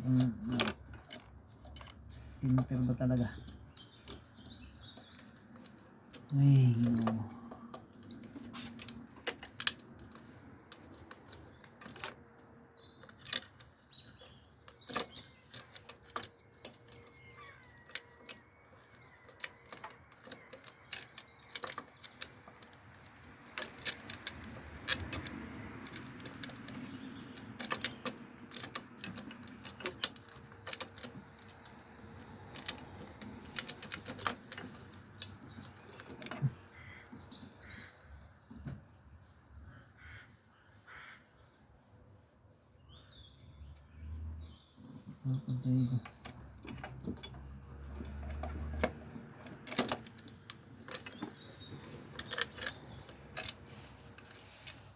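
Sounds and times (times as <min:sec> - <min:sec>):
tools and parts clinking: 0:00.0 - 0:37.8, 0:44.4 - 0:54.9.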